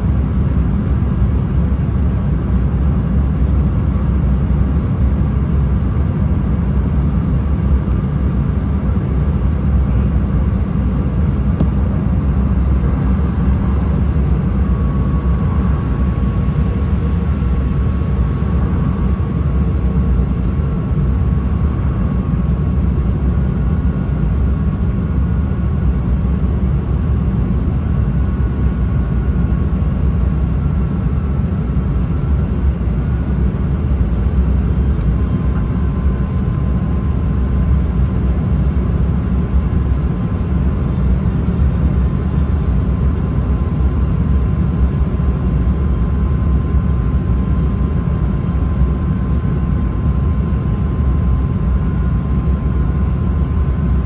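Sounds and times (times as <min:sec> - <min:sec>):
faint steady whine: 0:00.0 - 0:54.0
low rumble of airflow and engines: 0:00.0 - 0:54.0.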